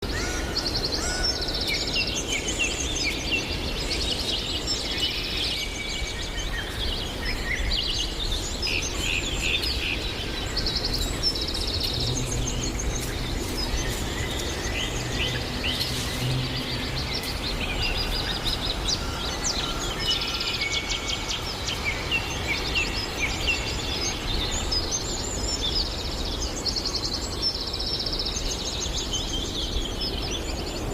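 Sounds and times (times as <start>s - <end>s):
small birds singing and chirping: 0.0s - 30.9s.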